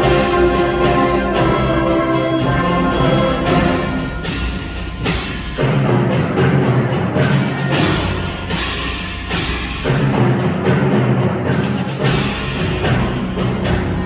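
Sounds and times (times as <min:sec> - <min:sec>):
concert band playing: 0:00.0 - 0:14.0
sharp percussion strikes: 0:00.0 - 0:14.0
timpani: 0:00.0 - 0:14.0.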